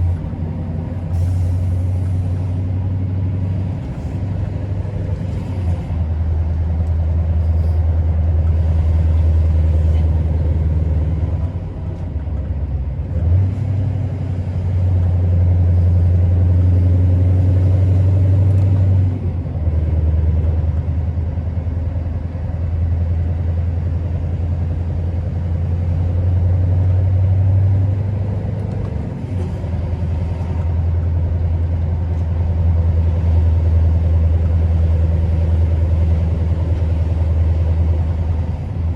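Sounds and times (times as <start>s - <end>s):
truck diesel engine drone: 0.0s - 38.9s
tyre and road noise: 0.0s - 38.9s.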